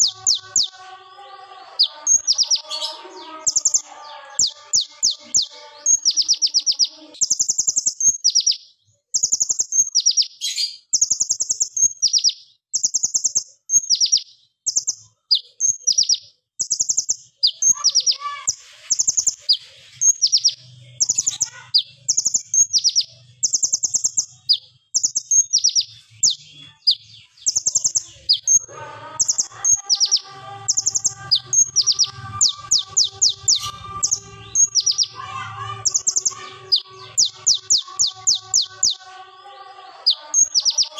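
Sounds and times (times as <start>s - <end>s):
bird rapid rattling chirps: 1.8s - 2.8s, 4.4s - 8.6s, 9.2s - 28.6s, 29.2s - 35.2s, 35.8s - 39.0s, 40.1s - 40.9s.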